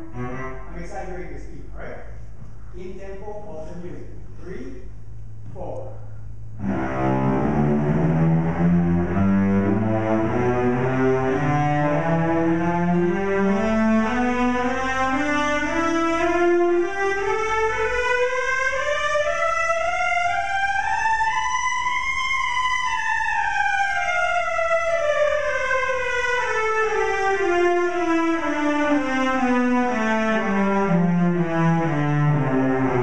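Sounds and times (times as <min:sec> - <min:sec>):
cellos playing a scale: 0:00.0 - 0:02.0, 0:06.6 - 0:33.0.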